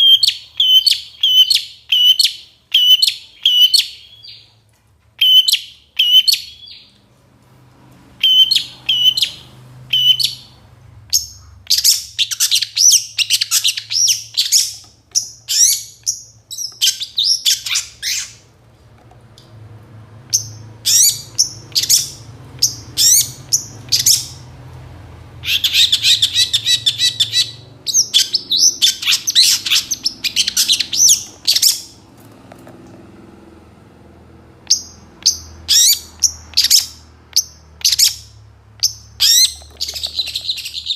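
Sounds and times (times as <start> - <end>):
bird singing rapid chirps and trills: 0.0 - 4.5, 5.2 - 7.0, 8.2 - 18.5, 20.3 - 24.6, 25.3 - 32.0, 34.6 - 40.9.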